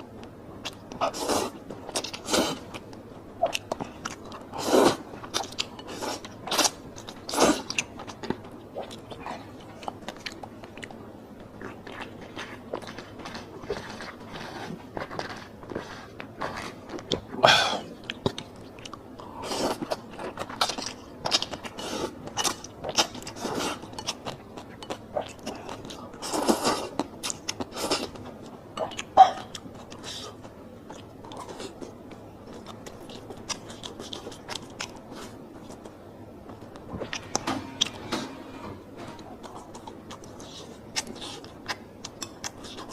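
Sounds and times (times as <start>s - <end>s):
person chewing food: 0.0s - 38.0s, 39.1s - 42.9s.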